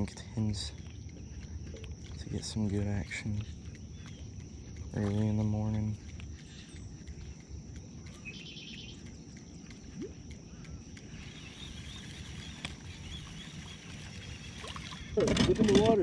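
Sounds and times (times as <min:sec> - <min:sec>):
rapid chirping trill: 0:00.0 - 0:15.2
high-pitched insect drone: 0:00.0 - 0:16.0.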